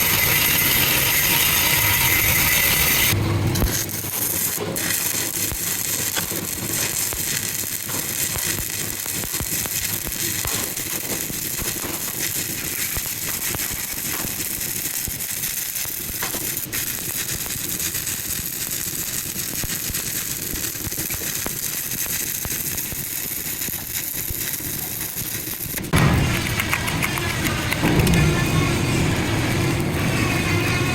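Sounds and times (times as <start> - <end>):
welding arc crackling hiss: 0.0 - 30.9.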